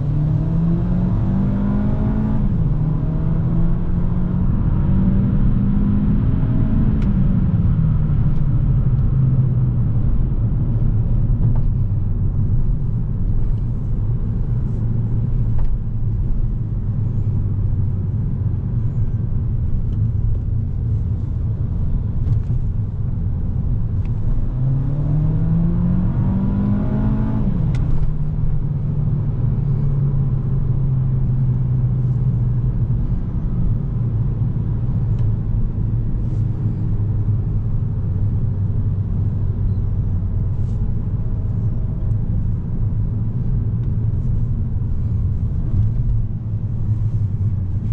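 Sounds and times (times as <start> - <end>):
road and tyre noise: 0.0 - 47.9
car engine running: 6.3 - 47.9.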